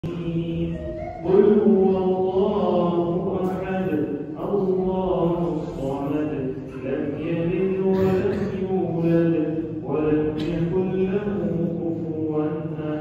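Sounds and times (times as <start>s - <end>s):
man chanting devotional song: 0.0s - 13.0s.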